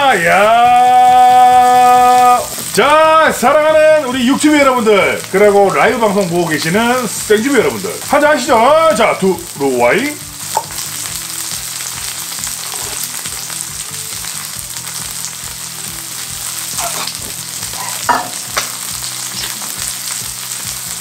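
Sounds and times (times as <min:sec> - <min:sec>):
pork sizzling in a pan: 0:00.0 - 0:21.0.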